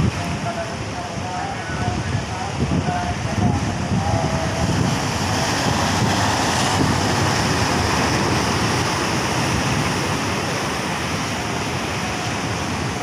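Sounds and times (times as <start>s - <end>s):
waves breaking over rocks: 0.0s - 13.0s.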